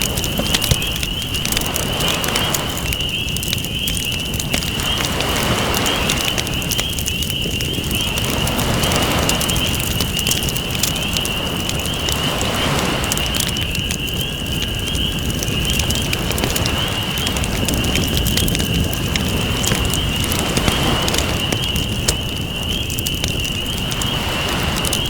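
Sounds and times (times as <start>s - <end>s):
campfire crackling and popping: 0.0s - 25.0s
ocean waves washing: 0.0s - 25.0s.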